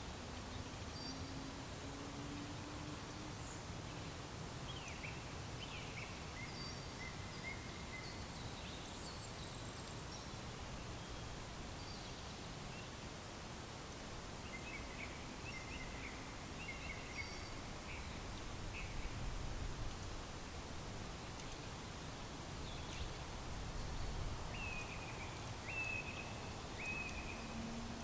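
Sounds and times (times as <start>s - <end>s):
faint distant birdsong: 0.0s - 28.0s.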